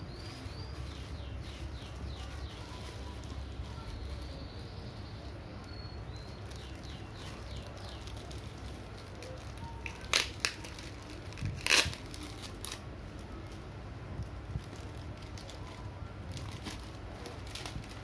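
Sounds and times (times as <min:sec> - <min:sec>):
plastic packaging crinkling: 0:00.2 - 0:04.8, 0:05.7 - 0:13.6, 0:14.2 - 0:18.0.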